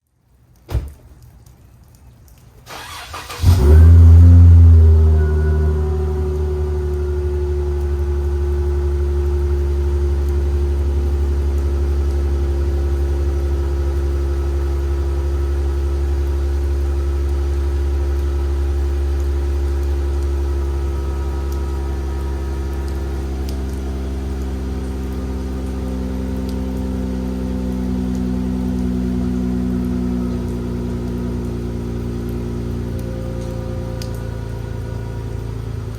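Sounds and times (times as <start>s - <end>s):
car engine idling: 2.7s - 35.9s.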